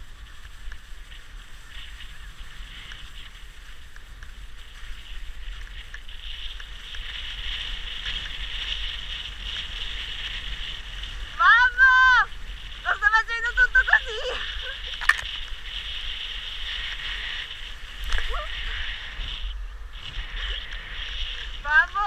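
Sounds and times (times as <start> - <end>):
skis hissing over snow: 0.0 - 22.0
wind rumble on microphone: 0.0 - 22.0.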